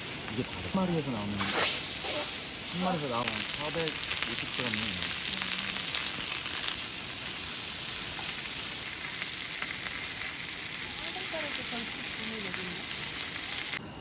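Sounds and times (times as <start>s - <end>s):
meat sizzling: 0.0s - 13.8s.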